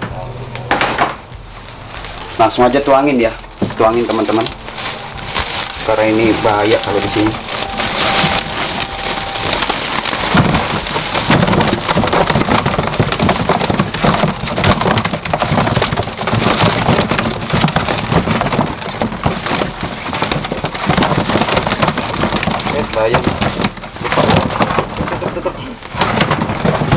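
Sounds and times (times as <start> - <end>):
plastic sack rustling: 1.2 - 26.9
lizard claws scrabbling on plastic: 3.4 - 26.9.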